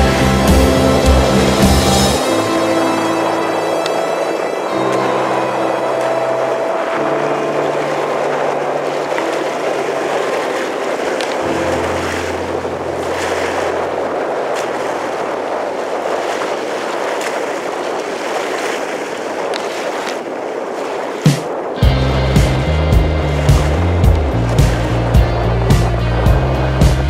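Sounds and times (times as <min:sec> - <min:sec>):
strong wind: 0:00.0 - 0:27.0
surf: 0:00.0 - 0:27.0.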